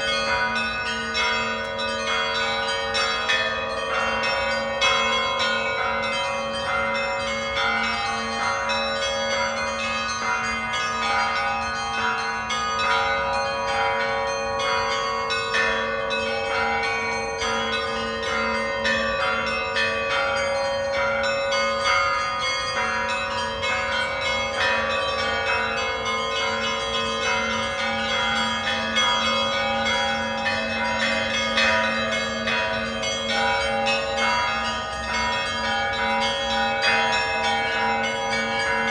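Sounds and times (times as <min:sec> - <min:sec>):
large bells humming: 0:00.0 - 0:38.9
small church bells pealing: 0:00.0 - 0:38.9.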